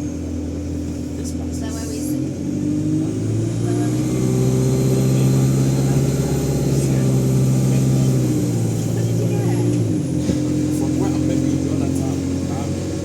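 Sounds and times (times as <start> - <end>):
bus diesel engine under load: 0.0 - 13.0
turbocharger whine: 0.0 - 13.0.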